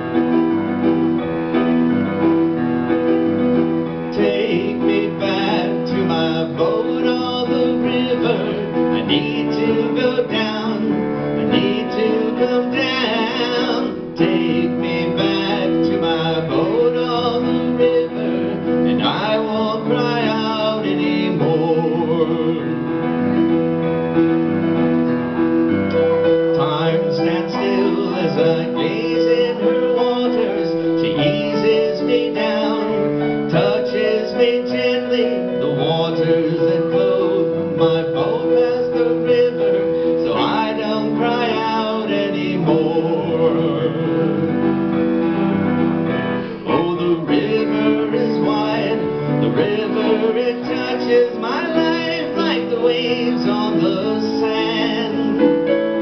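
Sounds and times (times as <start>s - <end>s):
keyboard chords with melody: 0.0s - 56.0s.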